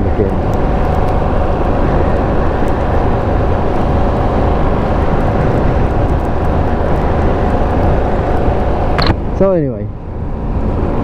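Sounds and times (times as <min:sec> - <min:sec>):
motorcycle engine running: 0:00.0 - 0:09.2
wind and road noise: 0:00.0 - 0:11.0.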